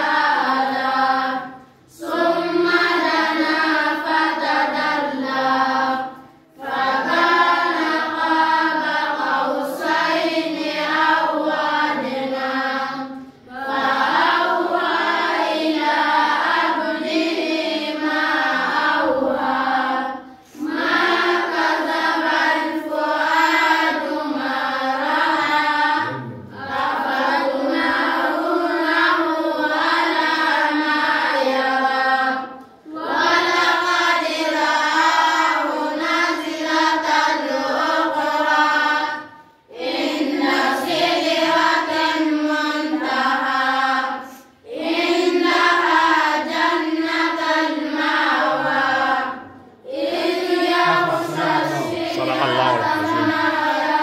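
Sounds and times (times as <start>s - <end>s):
children chanting in unison: 0.0s - 54.0s.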